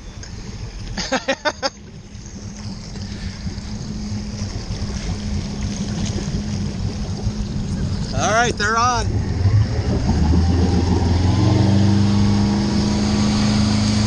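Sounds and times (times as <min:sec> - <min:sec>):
motorboat engine humming: 0:00.0 - 0:14.0
water noise: 0:00.0 - 0:14.0
wind: 0:00.0 - 0:14.0.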